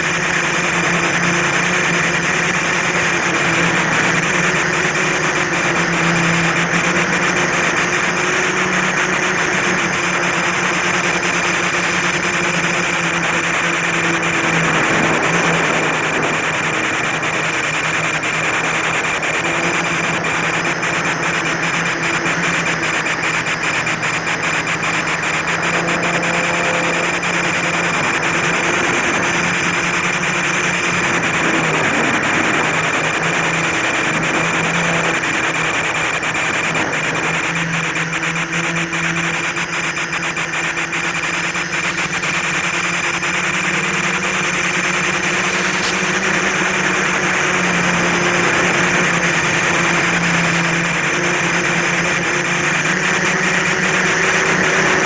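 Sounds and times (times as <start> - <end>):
quadcopter motors humming: 0.0 - 55.0.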